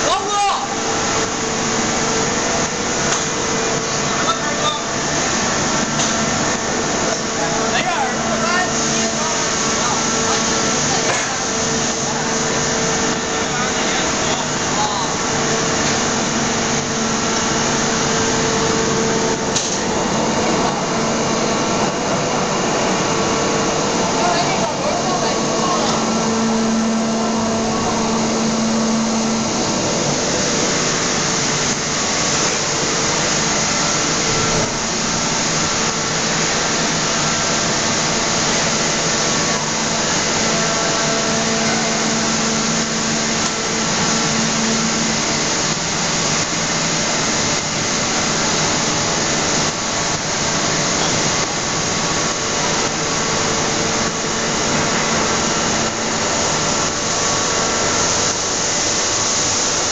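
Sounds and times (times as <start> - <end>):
low machinery hum: 0.0 - 59.9
machinery hiss: 0.0 - 59.9.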